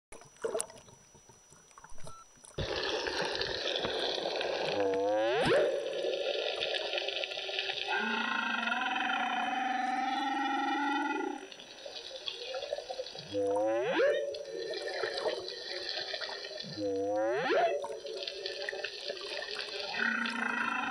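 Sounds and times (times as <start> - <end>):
underwater water noise: 0.1 - 20.9
humpback whale song: 2.0 - 20.9.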